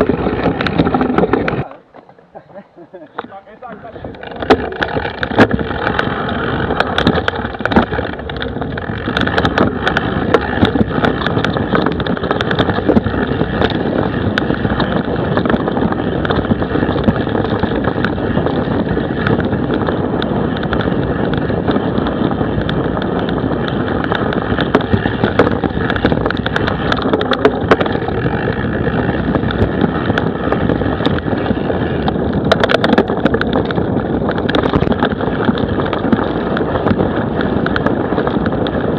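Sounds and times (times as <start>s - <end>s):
bike knocking and rattling over bumps: 0.0s - 38.9s
bike tyres rumbling on trail: 0.0s - 38.9s.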